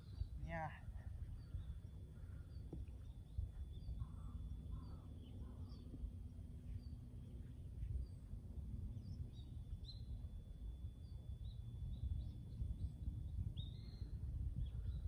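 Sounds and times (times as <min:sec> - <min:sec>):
faint bird chirps: 0:00.0 - 0:15.0
wind rumble on microphone: 0:00.0 - 0:15.0.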